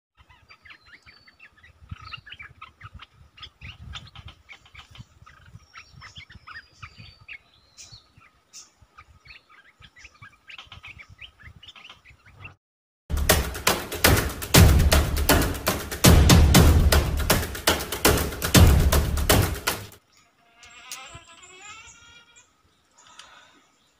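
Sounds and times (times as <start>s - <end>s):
birds chirping: 0.2s - 12.6s, 13.2s - 23.9s.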